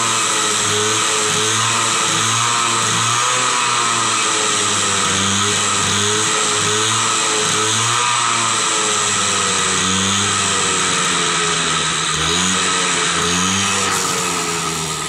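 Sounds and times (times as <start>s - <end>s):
moped engine revving: 0.0s - 15.0s.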